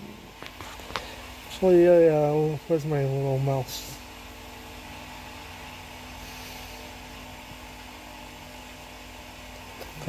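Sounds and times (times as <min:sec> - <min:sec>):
electric fan whirring: 0:00.0 - 0:10.0
faint steady hum: 0:00.0 - 0:10.0.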